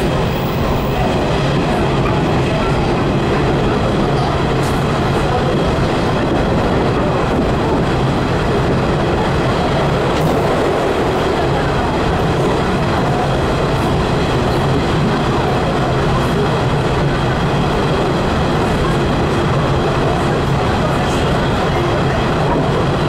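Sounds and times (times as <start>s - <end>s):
train running noise in tunnel: 0.0s - 23.0s.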